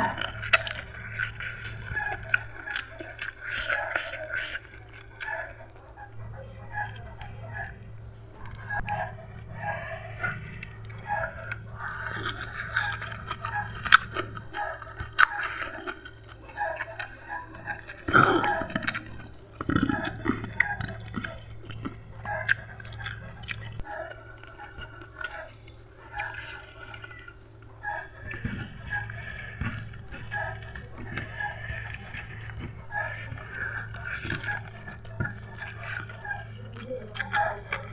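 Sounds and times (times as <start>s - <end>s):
person chewing and biting food: 0.0s - 37.9s.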